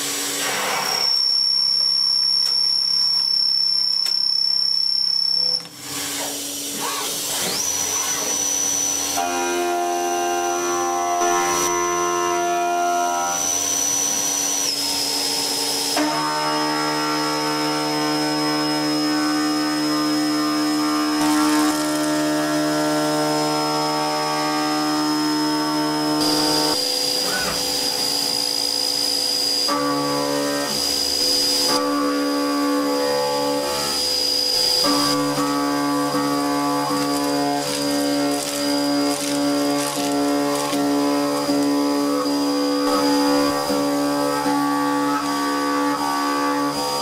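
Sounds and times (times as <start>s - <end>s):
milling machine cutting metal: 0.0s - 47.0s.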